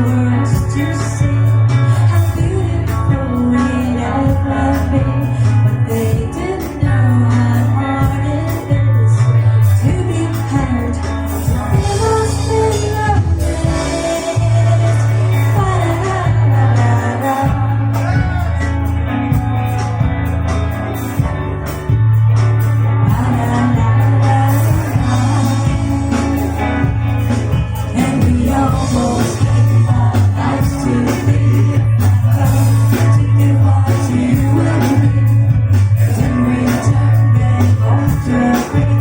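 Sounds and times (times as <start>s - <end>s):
person singing: 0.0s - 19.8s, 23.0s - 39.0s
bass line: 0.0s - 39.0s
rock band playing: 0.0s - 39.0s.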